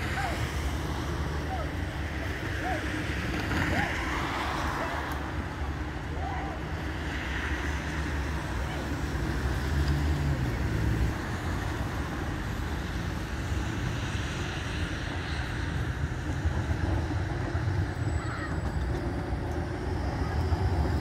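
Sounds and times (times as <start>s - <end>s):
cars passing: 0.0s - 21.0s
low traffic rumble: 0.0s - 21.0s
tram passing: 0.0s - 21.0s.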